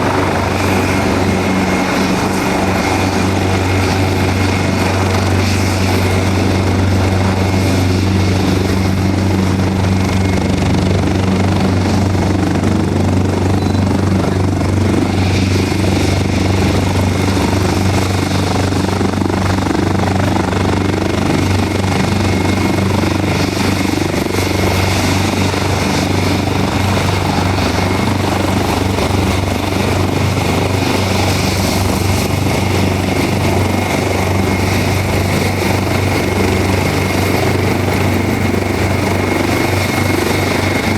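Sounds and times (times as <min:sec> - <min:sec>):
helicopter rotor drone: 0:00.0 - 0:40.9
turbine whine: 0:00.0 - 0:40.9.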